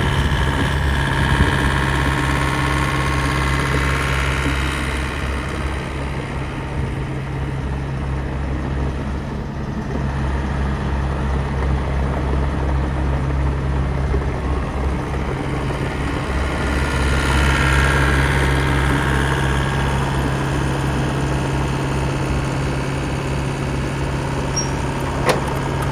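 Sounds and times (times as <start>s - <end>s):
diesel engine idling: 0.0s - 25.9s
high engine whine: 0.0s - 25.9s.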